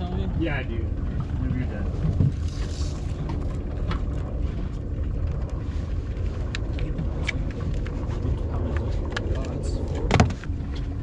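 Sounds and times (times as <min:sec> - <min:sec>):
outboard motors idling: 0:00.0 - 0:11.0.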